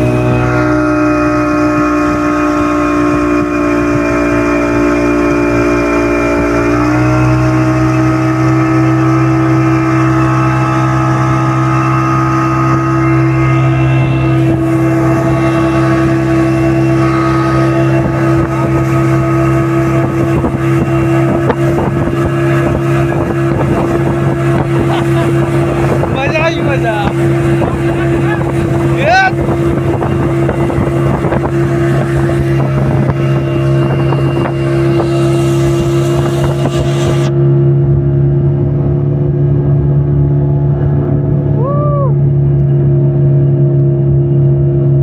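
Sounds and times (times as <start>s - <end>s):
motorboat engine running: 0.0s - 45.0s.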